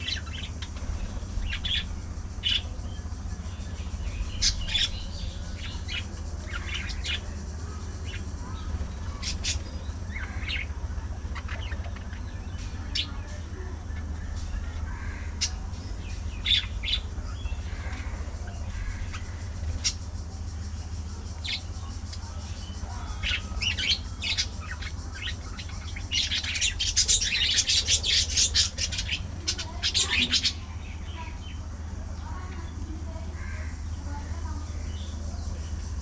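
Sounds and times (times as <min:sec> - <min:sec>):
budgerigars chirping and squawking: 0:00.0 - 0:36.0
steady low hum: 0:00.0 - 0:36.0.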